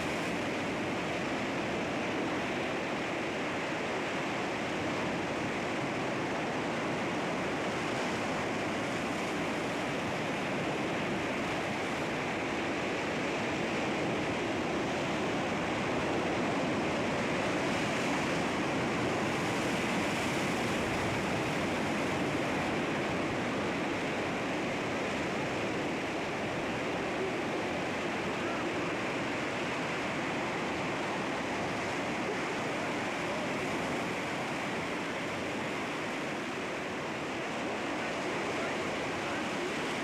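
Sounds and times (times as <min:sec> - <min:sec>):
sea waves washing against rocks: 0:00.0 - 0:40.0.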